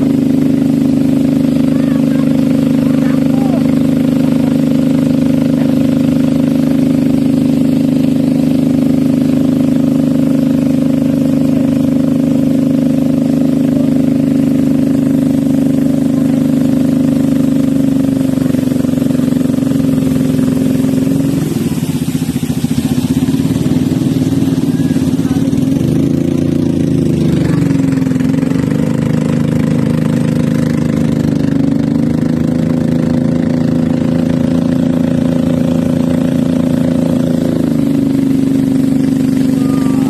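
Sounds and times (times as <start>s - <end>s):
small boat engine running: 0.0s - 40.0s.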